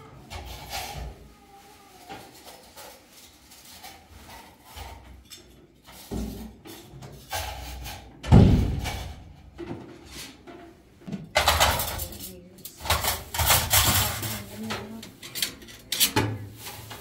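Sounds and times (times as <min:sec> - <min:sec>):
kitchen things knocking and clattering: 0:00.0 - 0:01.3, 0:02.1 - 0:17.0.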